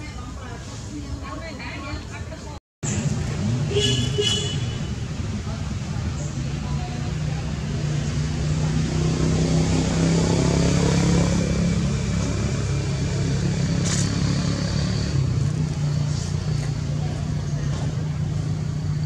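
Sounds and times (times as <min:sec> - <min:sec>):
vehicle engine running: 0:02.8 - 0:19.0.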